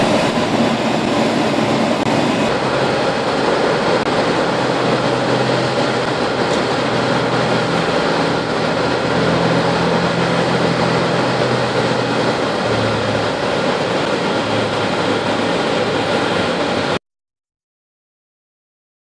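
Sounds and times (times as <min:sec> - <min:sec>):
jet engine noise: 0:00.0 - 0:17.0
low hum: 0:00.0 - 0:17.0.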